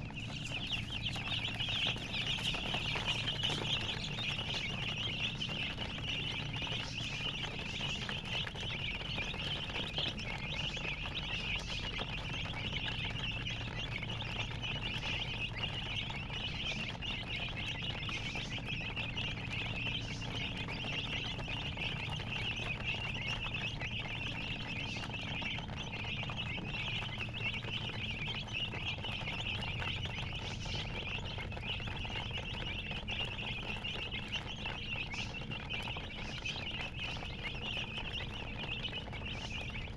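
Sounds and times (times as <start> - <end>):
baby chicks peeping: 0.0 - 39.9
low steady hum: 0.0 - 39.9.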